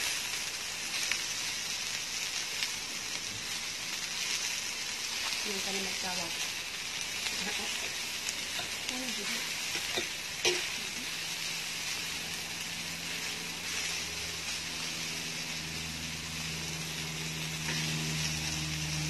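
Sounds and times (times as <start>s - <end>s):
food sizzling on grill pan: 0.0s - 19.0s.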